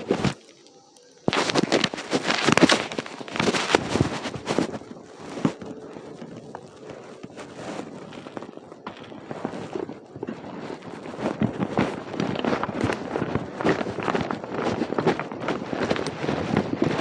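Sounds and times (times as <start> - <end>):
footsteps through dry leaves: 0.0 - 17.0.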